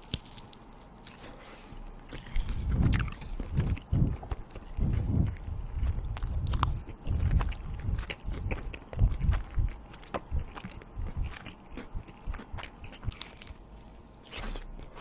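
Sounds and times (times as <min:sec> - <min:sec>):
food crackling: 0:00.0 - 0:15.0
chewing food: 0:02.0 - 0:15.0.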